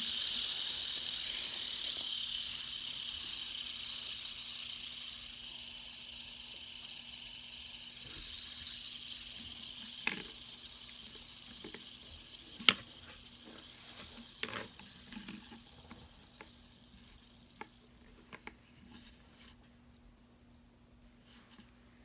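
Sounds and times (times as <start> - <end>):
fidget spinners whirring: 0.0 - 20.5.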